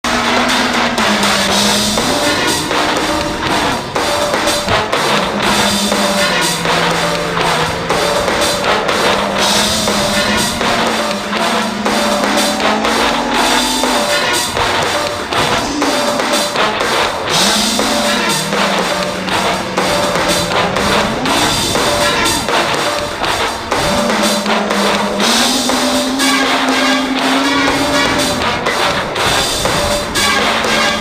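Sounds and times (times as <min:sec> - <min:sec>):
drum kit beat: 0:00.0 - 0:31.0
rock music: 0:00.0 - 0:31.0.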